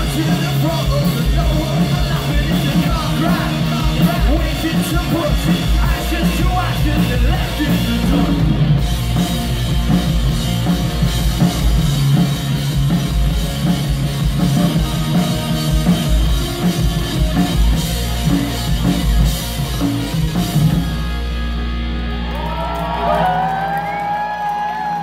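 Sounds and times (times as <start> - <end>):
drum kit pounding: 0.0 - 22.5
distorted electric guitars and bass: 0.0 - 25.0.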